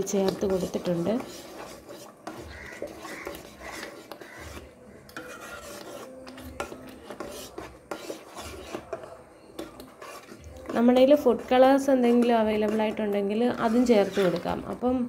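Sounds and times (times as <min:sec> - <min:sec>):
spatula scraping pan: 0:00.0 - 0:15.0.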